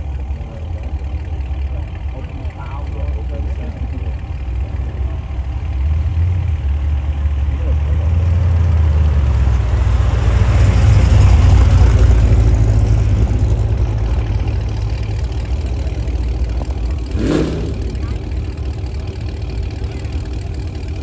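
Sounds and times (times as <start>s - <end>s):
car exhaust rumbling: 0.0s - 21.0s.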